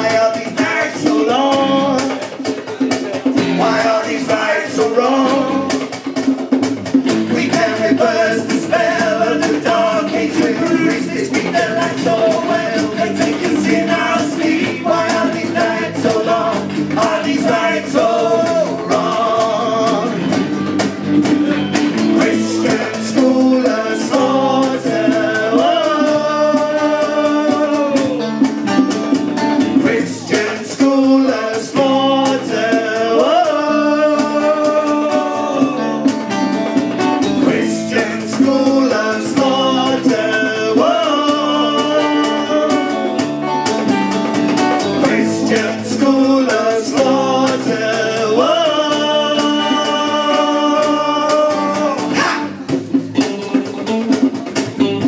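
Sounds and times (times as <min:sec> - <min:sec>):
male and female singers: 0:00.0 - 0:06.4, 0:07.1 - 0:20.5, 0:21.5 - 0:28.5, 0:29.6 - 0:36.4, 0:37.0 - 0:43.4, 0:44.7 - 0:55.0
drum beat: 0:00.0 - 0:55.0
electric guitars: 0:00.0 - 0:55.0.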